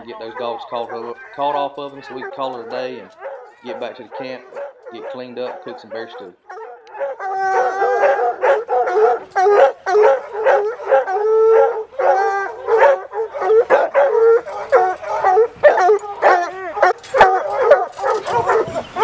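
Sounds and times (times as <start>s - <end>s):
hounds baying and barking: 0.0s - 19.0s.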